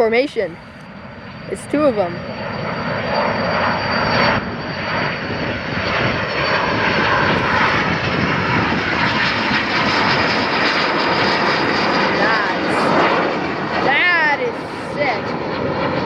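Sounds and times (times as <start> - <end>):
high turbine whine: 0.0 - 16.0
jet engine rush: 0.0 - 16.0.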